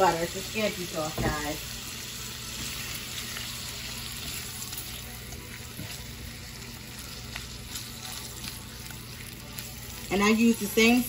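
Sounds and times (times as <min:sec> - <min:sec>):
shrimp sizzling in skillet: 0:00.0 - 0:11.0.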